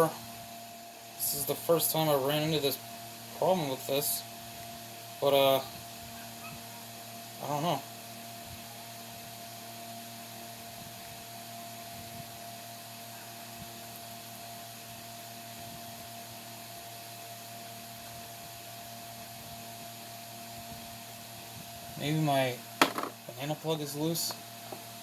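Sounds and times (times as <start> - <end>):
electric fan running: 0.0 - 25.0.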